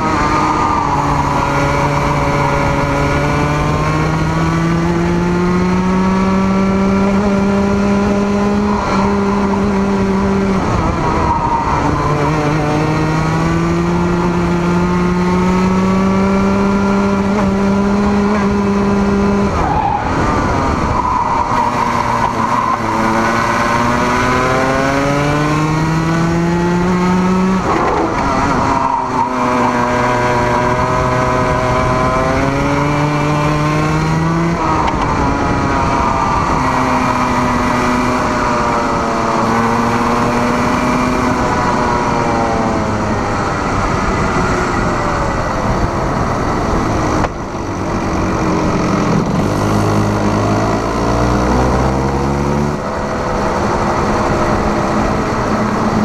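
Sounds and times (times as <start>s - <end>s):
racing kart engine revving: 0.0s - 56.0s.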